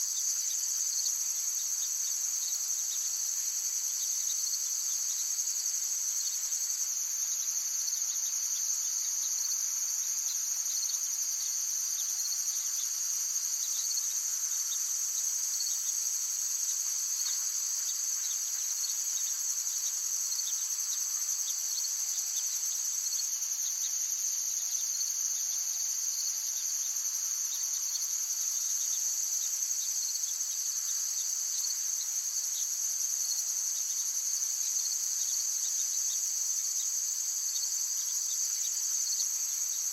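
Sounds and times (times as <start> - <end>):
insects trilling: 0.1 - 39.9.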